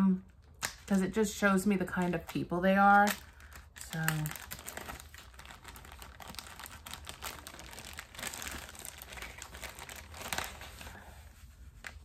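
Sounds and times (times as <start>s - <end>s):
packaging crinkling and rustling: 0.3s - 12.0s.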